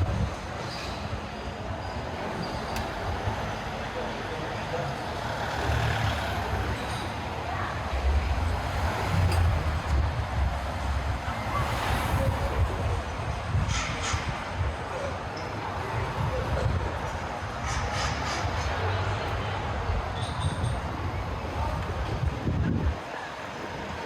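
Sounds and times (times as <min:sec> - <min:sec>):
city street traffic: 0:00.0 - 0:24.0
heavy vehicle engine rumble: 0:00.0 - 0:24.0.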